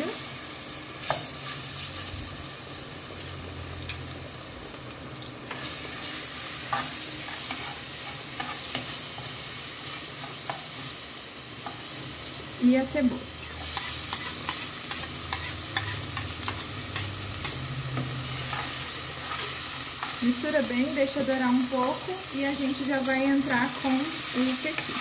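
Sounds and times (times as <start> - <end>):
garlic sizzling in hot oil: 0.0 - 25.0.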